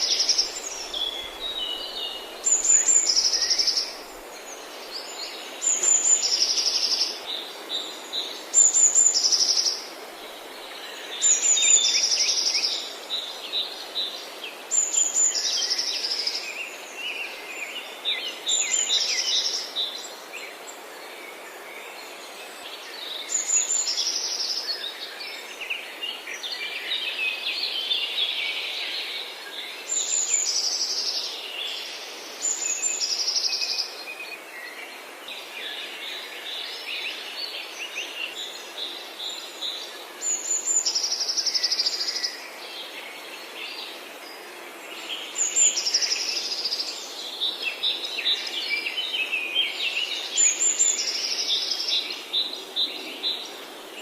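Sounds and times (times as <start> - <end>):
background hiss: 0.0 - 54.0
birds chirping and twittering: 0.0 - 54.0.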